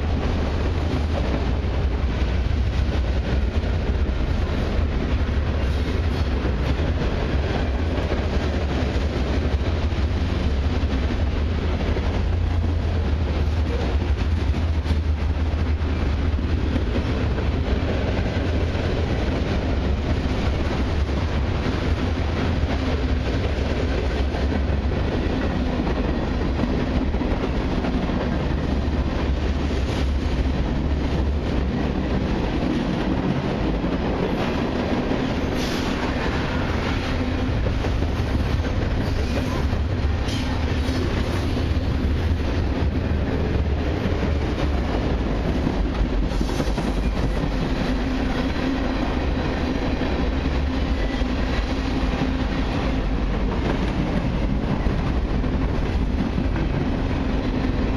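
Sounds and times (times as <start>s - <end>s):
train wheels clickety-clack on rails: 0.0s - 57.9s.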